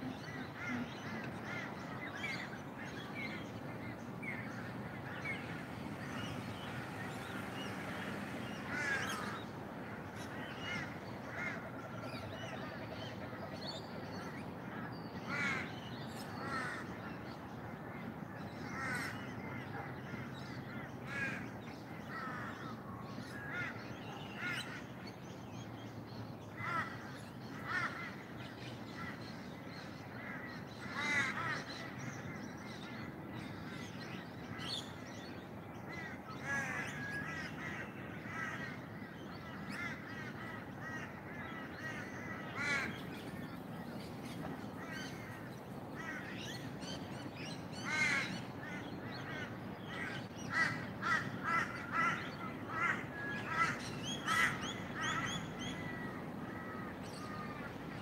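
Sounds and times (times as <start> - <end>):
crows cawing: 0.0 - 12.8, 15.2 - 17.1, 18.4 - 24.9, 26.6 - 29.4, 30.2 - 33.0, 35.9 - 58.0
wild birds calling: 0.0 - 58.0.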